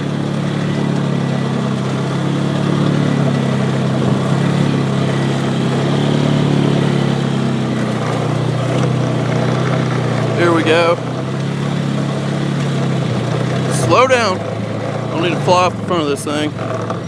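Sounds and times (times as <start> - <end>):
atv engine running under load: 0.0 - 17.0.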